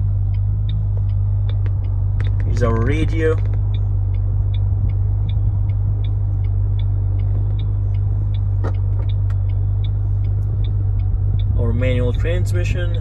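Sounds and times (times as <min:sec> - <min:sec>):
car engine idling: 0:00.0 - 0:13.0
faint regular ticking: 0:00.0 - 0:13.0.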